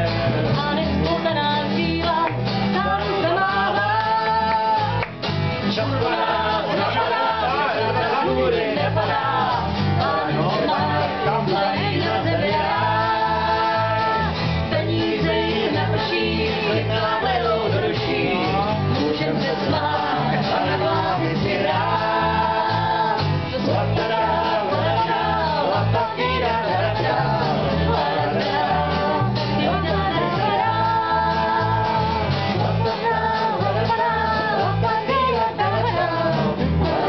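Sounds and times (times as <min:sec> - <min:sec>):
person singing: 0:00.0 - 0:05.1, 0:05.7 - 0:37.0
electric bass line: 0:00.0 - 0:37.0
strummed acoustic guitar: 0:00.0 - 0:37.0.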